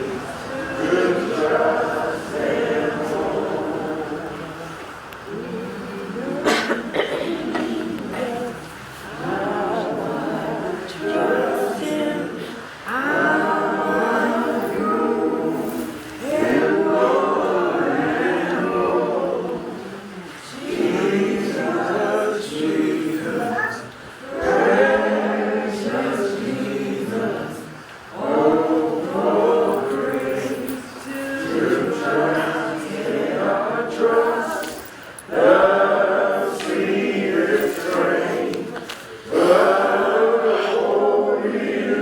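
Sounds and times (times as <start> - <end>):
group singing a hymn: 0.0 - 42.0.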